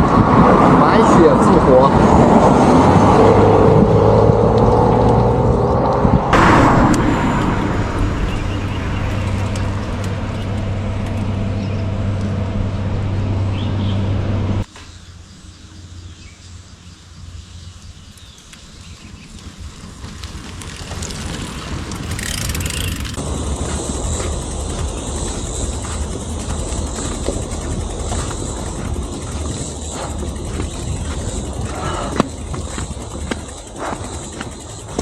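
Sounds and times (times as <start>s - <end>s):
road noise: 0.0s - 35.0s
vehicle engine running: 0.0s - 35.0s.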